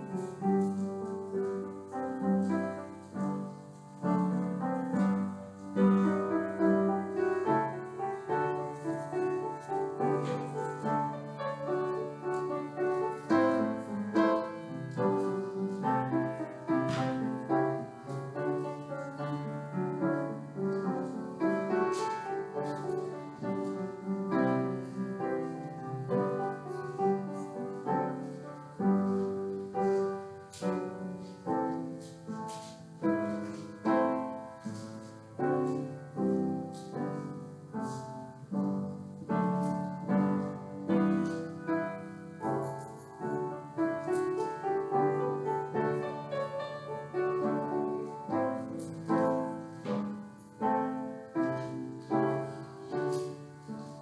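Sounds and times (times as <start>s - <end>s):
slow piano chords: 0.0s - 54.0s.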